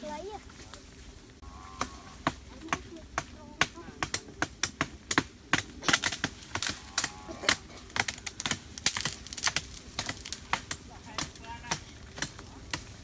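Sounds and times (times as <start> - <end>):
woody knocks and cracks: 1.8 - 13.0.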